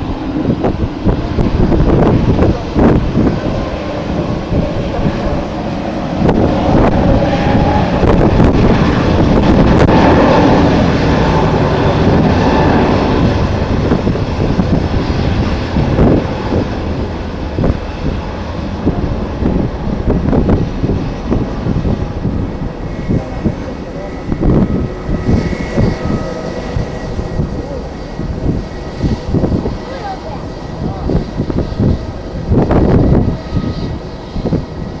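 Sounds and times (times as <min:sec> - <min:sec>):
jet engines roaring: 0:00.0 - 0:35.0
wind buffeting microphone: 0:00.0 - 0:35.0.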